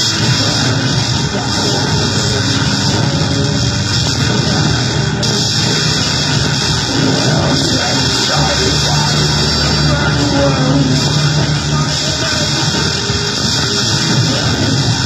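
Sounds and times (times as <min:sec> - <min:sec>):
distorted pedal noise: 0:00.0 - 0:15.0
steady low hum: 0:00.0 - 0:15.0.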